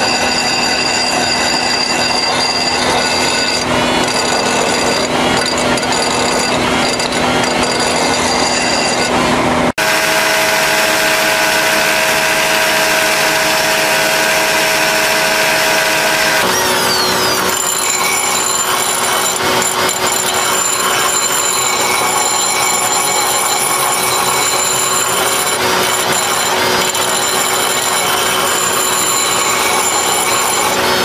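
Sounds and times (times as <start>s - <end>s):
die grinder grinding steel: 0.0s - 31.0s.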